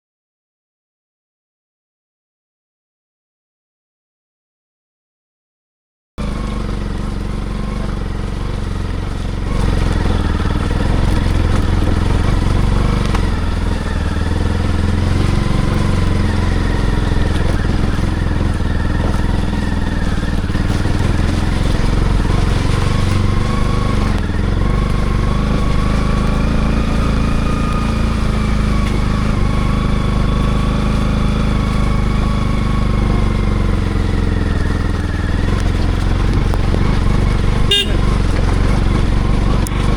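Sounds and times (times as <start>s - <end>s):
motorcycle engine running: 6.2s - 39.9s.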